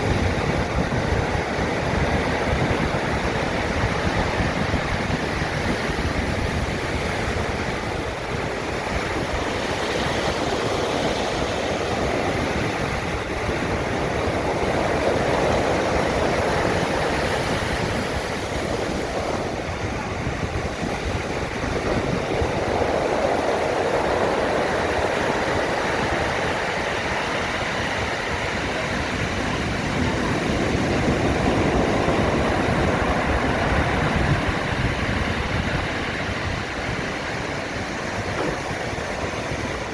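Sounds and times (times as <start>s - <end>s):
storm waves breaking: 0.0s - 39.9s.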